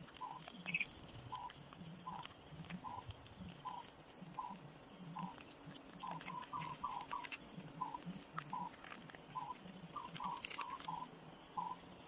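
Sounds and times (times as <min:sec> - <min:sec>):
paper crinkling: 0:00.0 - 0:11.1.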